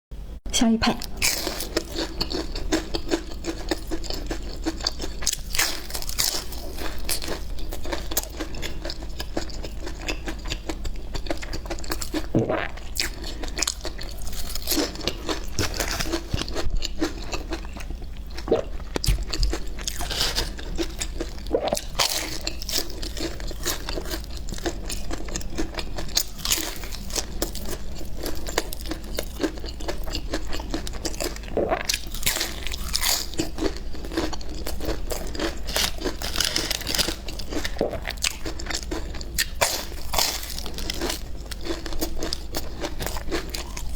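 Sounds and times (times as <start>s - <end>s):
crunchy pie crust being chewed: 1.0s - 43.9s.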